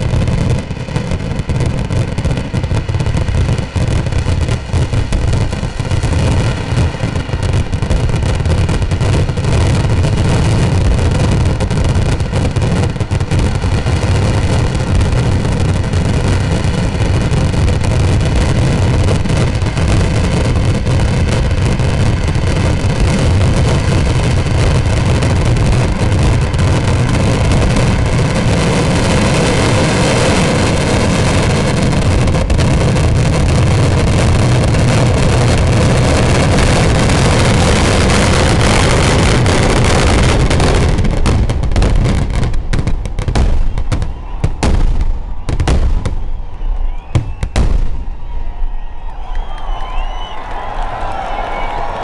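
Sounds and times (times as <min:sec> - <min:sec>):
firecracker bangs: 0:00.0 - 0:52.0.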